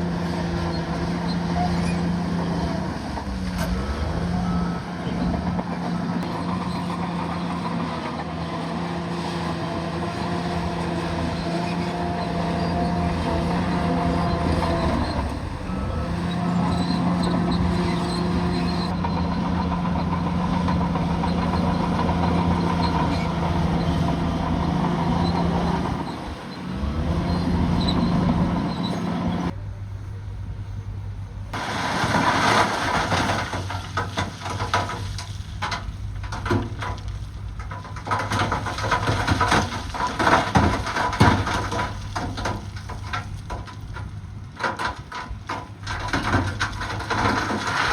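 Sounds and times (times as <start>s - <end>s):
steel clanking and scraping rock: 0.0s - 29.6s, 31.5s - 47.9s
bulldozer diesel engine running: 0.0s - 47.9s.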